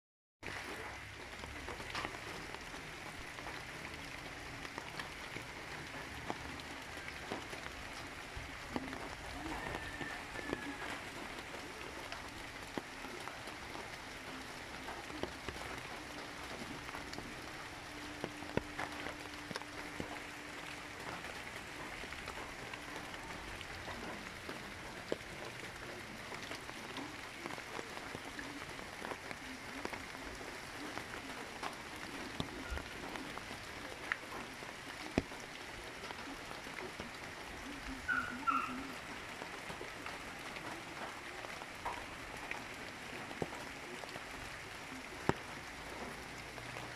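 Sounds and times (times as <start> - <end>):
light ticks: 0.5 - 46.9.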